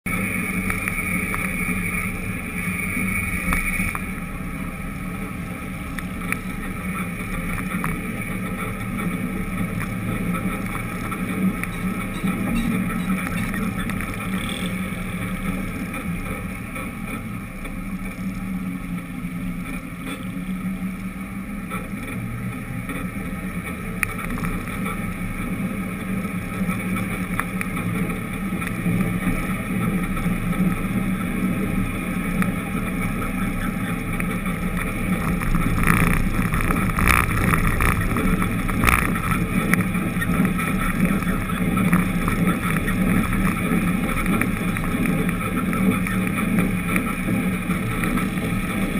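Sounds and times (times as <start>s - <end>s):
road noise: 0.0s - 48.9s
vehicle engine hum: 0.0s - 48.9s.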